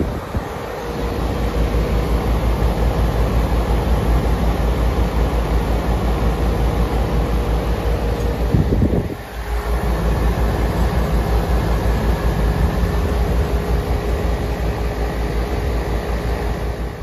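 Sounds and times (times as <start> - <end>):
air conditioner fan rushing: 0.0 - 17.0.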